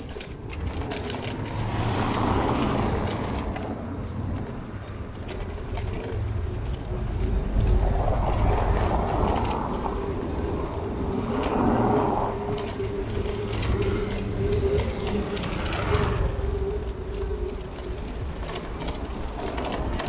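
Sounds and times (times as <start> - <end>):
bicycle ticking: 0.0 - 20.0
passing traffic: 0.0 - 20.0
wind and road rumble: 0.0 - 20.0.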